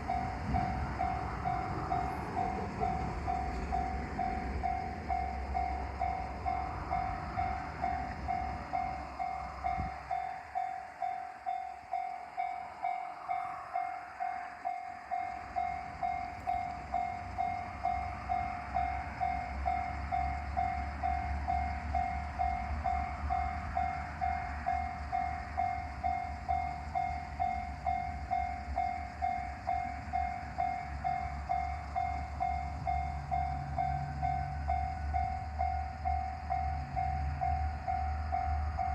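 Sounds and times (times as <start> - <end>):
diesel railcars rumbling: 0.0 - 38.9
level crossing alarm clanging: 0.0 - 38.9.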